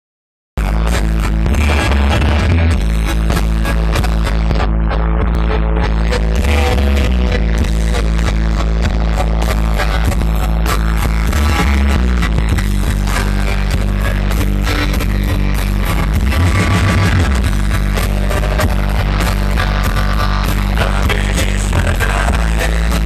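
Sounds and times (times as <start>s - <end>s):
loud live rock band: 0.6s - 23.0s.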